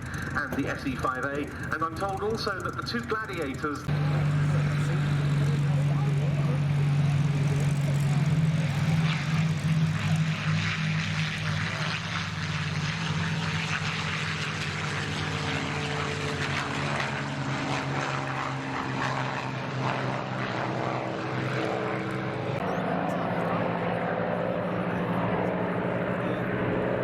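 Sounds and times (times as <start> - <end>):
propeller aircraft engine drone: 0.0 - 27.0.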